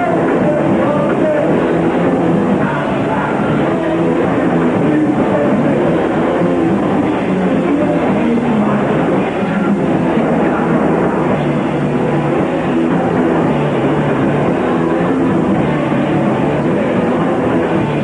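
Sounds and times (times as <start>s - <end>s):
live punk band playing: 0.0s - 18.0s.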